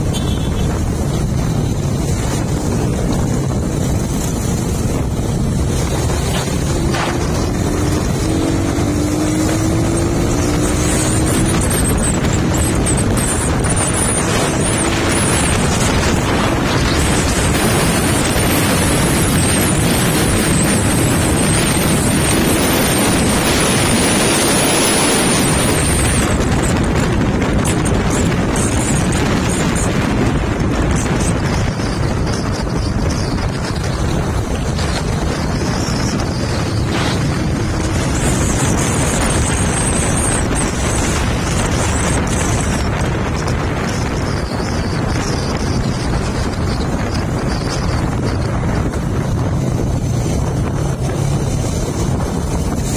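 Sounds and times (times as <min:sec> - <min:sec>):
motorcycle engine and tyre noise: 0:00.0 - 0:52.9
wind buffeting microphone: 0:00.0 - 0:52.9.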